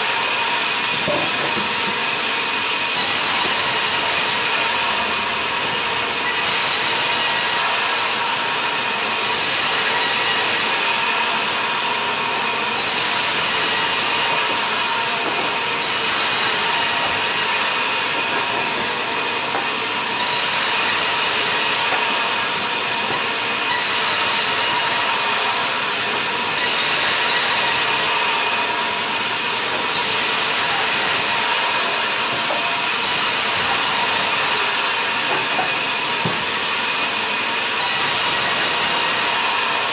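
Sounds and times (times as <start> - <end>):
band saw cutting a log: 0.0 - 39.9.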